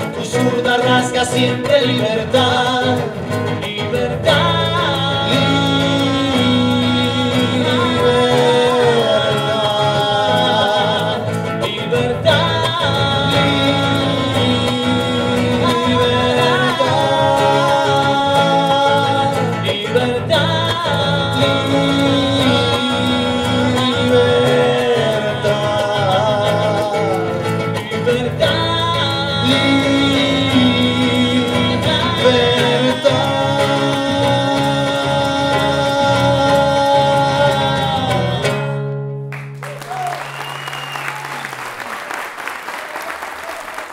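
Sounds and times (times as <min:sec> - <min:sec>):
men singing together: 0:00.0 - 0:38.6
classical guitar: 0:00.0 - 0:39.6.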